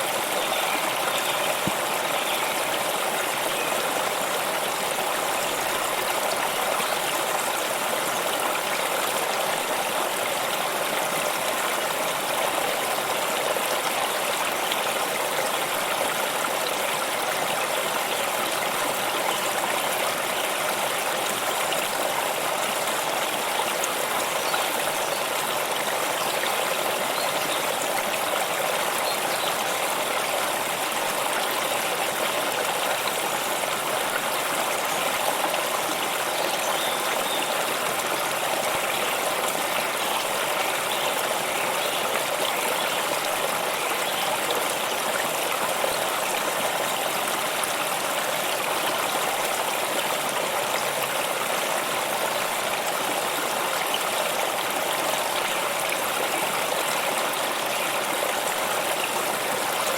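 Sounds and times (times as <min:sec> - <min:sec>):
stream water running and splashing: 0:00.0 - 0:59.9.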